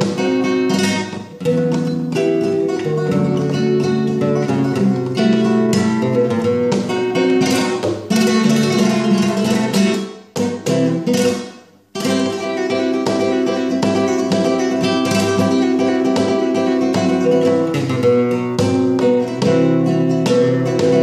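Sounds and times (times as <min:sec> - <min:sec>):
flamenco guitar playing: 0:00.0 - 0:21.0.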